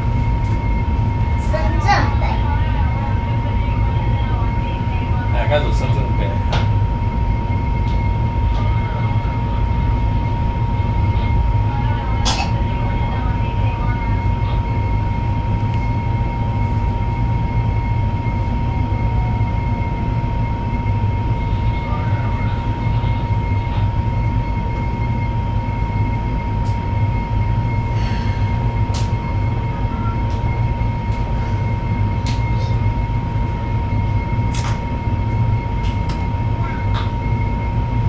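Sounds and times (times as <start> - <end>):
thin whine: 0.0 - 38.0
train cabin low hum: 0.0 - 38.0.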